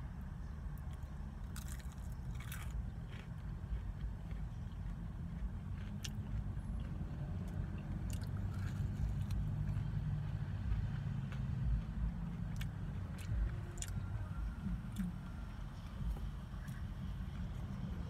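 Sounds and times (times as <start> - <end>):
low rumble: 0.0 - 18.0
person chewing food: 0.2 - 18.0.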